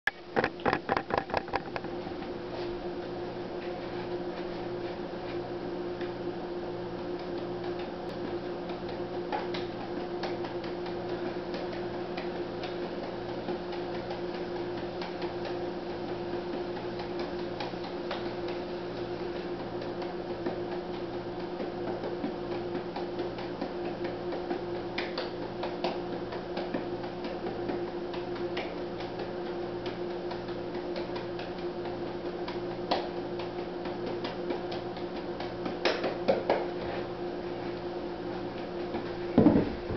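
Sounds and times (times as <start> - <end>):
electrical hum: 0.1 - 39.9.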